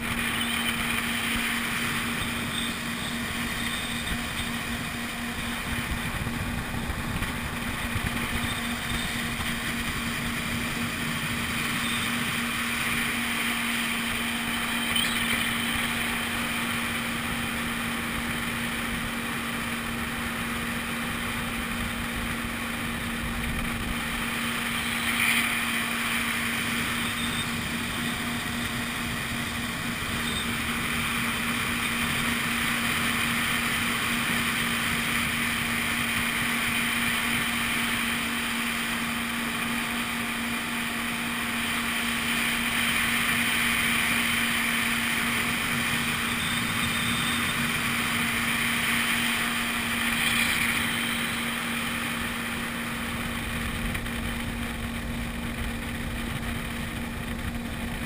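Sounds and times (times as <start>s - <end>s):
jet ski engine droning: 0.0s - 58.0s.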